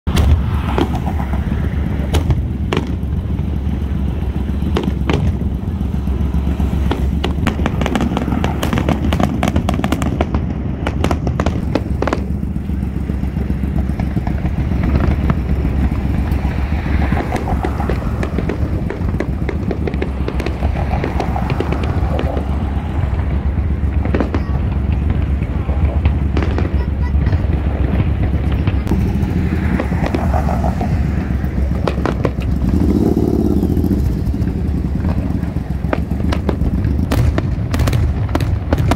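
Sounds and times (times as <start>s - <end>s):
fireworks bangs and crackles: 0.0s - 38.9s
low rumble: 0.1s - 38.9s.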